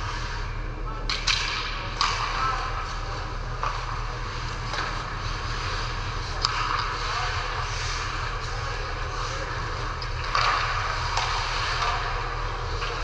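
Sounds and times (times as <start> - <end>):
low arena hum: 0.0 - 13.0
hockey sticks and puck clacking: 1.0 - 13.0.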